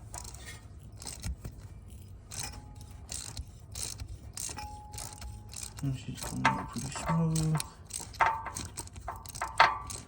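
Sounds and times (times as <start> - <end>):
ratchet clicking: 0.0 - 10.0.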